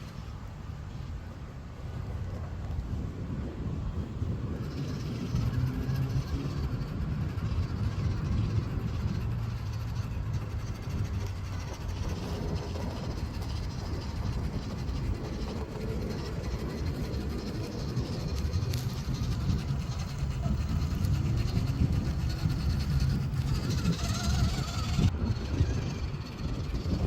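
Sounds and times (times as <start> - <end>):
electric motor and gearbox whir: 3.8 - 27.0.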